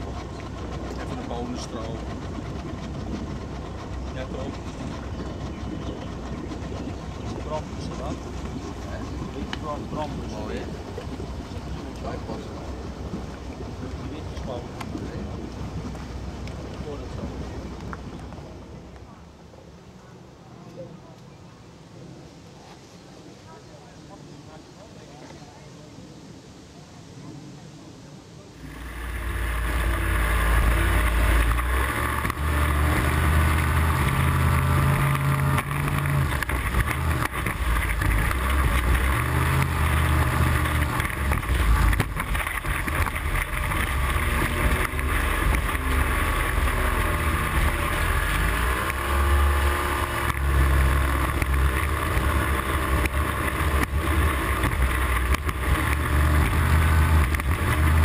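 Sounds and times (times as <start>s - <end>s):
water rushing and spraying: 0.0s - 19.1s, 28.0s - 58.0s
outboard motor running: 0.0s - 24.2s, 28.5s - 58.0s.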